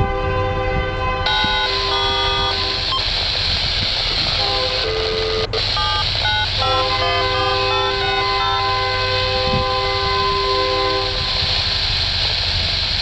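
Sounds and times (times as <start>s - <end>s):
locomotive air horn blasts: 0.0s - 3.2s, 4.1s - 11.9s
low train rumble: 0.0s - 13.0s.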